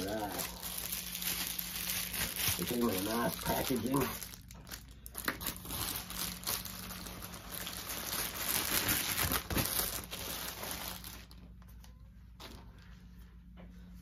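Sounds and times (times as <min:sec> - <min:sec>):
plastic mailer crinkling: 0:00.0 - 0:11.6.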